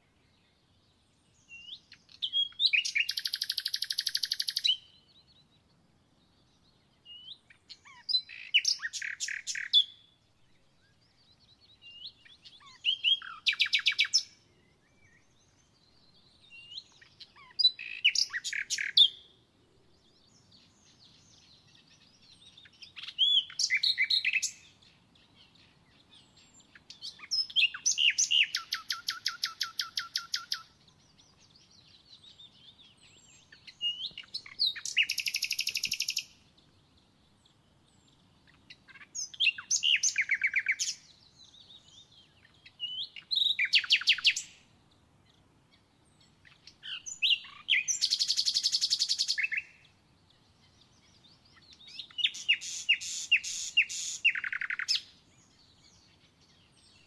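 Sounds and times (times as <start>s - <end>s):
songbird singing with trill: 0.0s - 57.0s.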